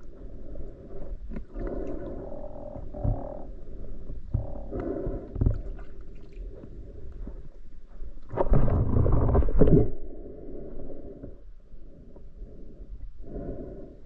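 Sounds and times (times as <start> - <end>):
muffled water gurgling and sloshing: 0.0 - 14.0.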